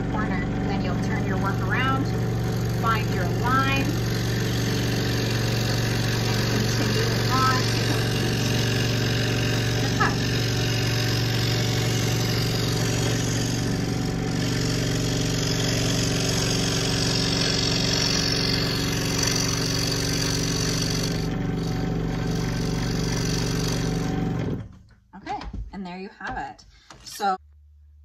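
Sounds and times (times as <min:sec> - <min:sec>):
scroll saw cutting wood: 0:00.6 - 0:24.7.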